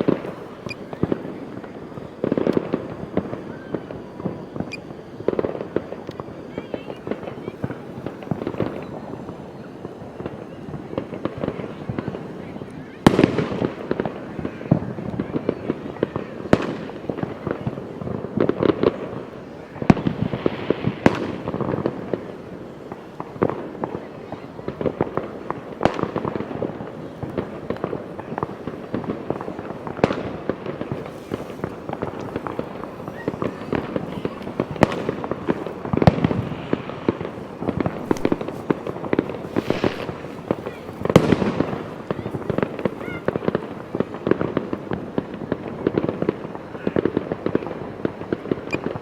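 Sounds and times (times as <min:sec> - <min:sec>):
distant fireworks rumble: 0:00.0 - 0:49.0
fireworks bangs and crackles: 0:00.0 - 0:49.0.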